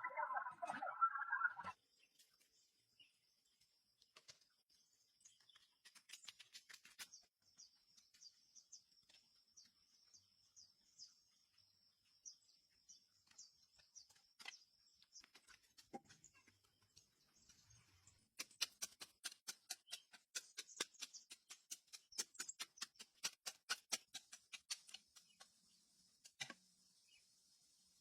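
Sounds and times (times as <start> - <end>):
small bird chirps: 0.0 - 27.4.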